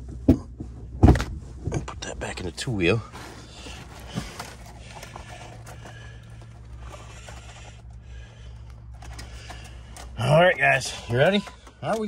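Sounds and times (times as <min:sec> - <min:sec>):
steady low hum: 0:00.0 - 0:12.0
faint rustling: 0:00.6 - 0:11.9.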